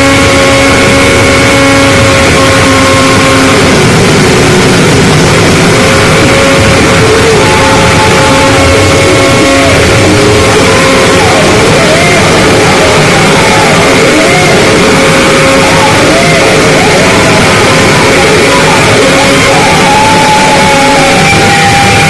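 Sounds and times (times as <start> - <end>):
harsh distorted noise music: 0.0 - 22.0.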